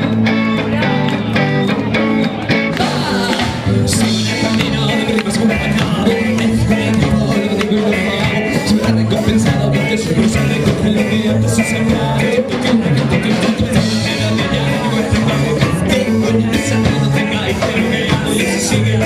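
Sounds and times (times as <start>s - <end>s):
live band playing ska-rock: 0.0s - 19.0s
person singing: 0.3s - 19.0s.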